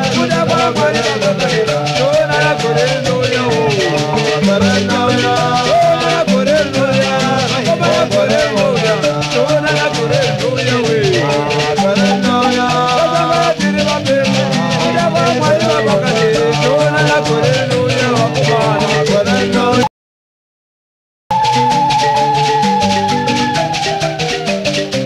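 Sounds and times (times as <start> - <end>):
background music with rattling percussion: 0.0 - 19.9, 21.3 - 25.0.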